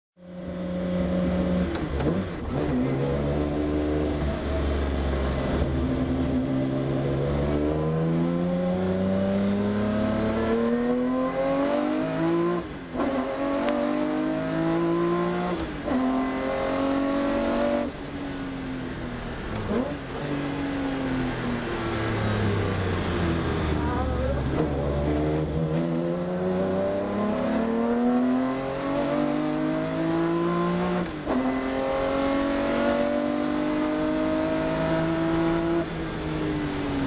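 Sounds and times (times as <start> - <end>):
race car engine accelerating: 0.4 - 18.0, 19.5 - 37.0.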